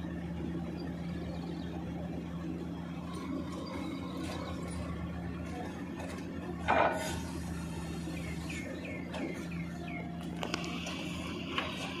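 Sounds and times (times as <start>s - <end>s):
hydraulic piling machine hum: 0.0s - 12.0s.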